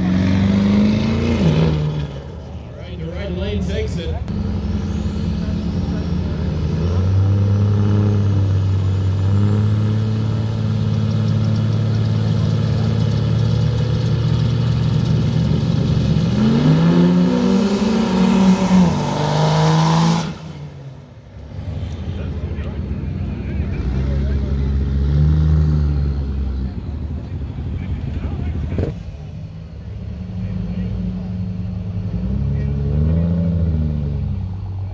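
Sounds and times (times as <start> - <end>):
pickup truck engines revving: 0.0 - 34.9.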